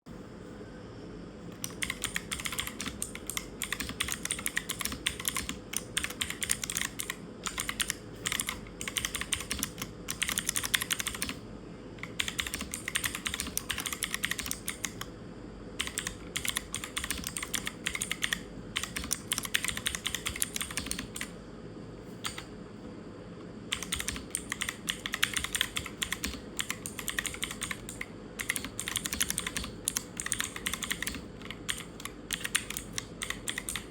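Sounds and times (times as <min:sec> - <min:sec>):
clicky mechanical keyboard typing: 0:01.5 - 0:11.4, 0:12.0 - 0:15.1, 0:15.8 - 0:21.4, 0:22.2 - 0:22.5, 0:23.7 - 0:33.9.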